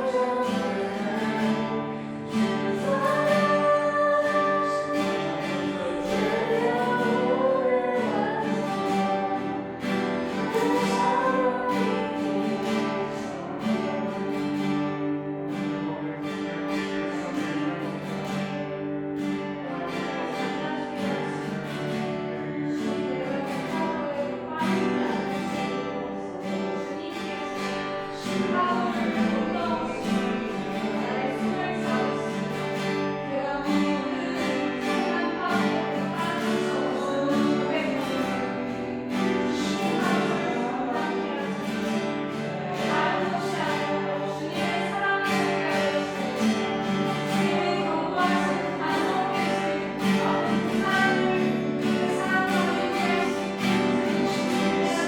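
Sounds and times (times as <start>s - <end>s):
guitar accompaniment: 0.0s - 55.0s
people singing: 0.0s - 55.0s.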